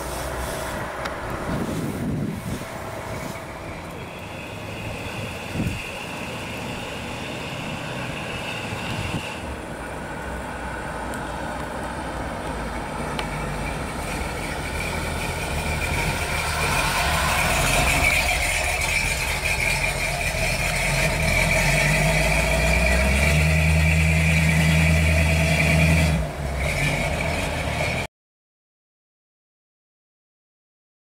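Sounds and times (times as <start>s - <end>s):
truck engine idling: 0.0s - 28.1s.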